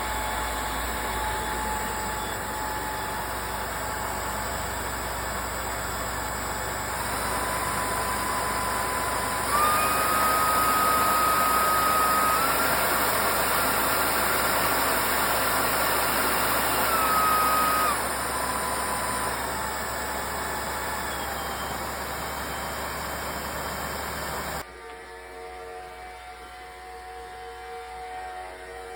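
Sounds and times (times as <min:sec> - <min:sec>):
cordless vacuum motor whine: 0:00.0 - 0:28.9.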